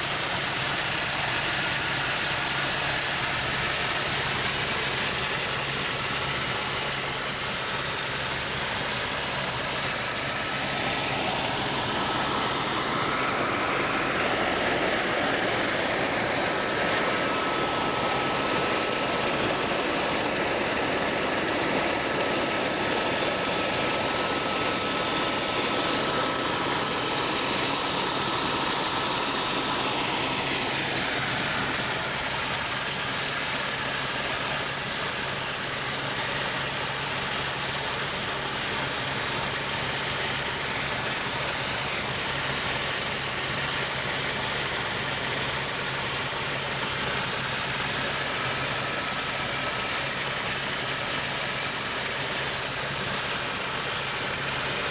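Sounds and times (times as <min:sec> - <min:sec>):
aircraft engine drone in cabin: 0:00.0 - 0:54.9.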